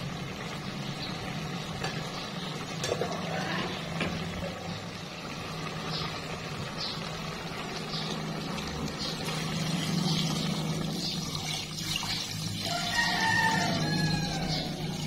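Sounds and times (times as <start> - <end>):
water pouring into metal pot: 1.8 - 15.0.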